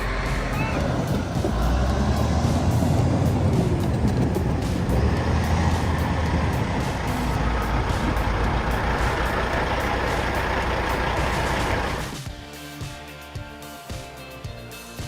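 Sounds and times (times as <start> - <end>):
heavy engine rumbling: 0.0 - 12.2.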